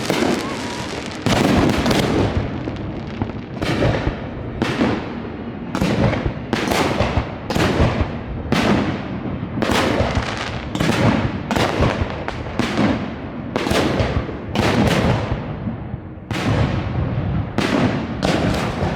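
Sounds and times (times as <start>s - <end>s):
fireworks booming: 0.0s - 18.9s.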